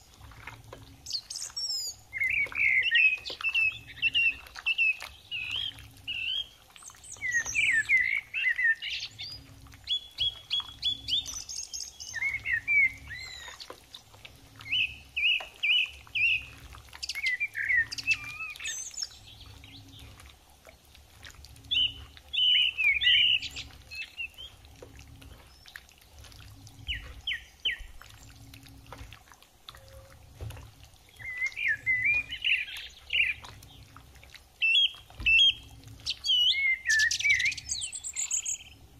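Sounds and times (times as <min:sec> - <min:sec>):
birds chirping and calling: 0:01.0 - 0:20.3, 0:21.6 - 0:28.4, 0:31.1 - 0:34.0, 0:34.6 - 0:38.8.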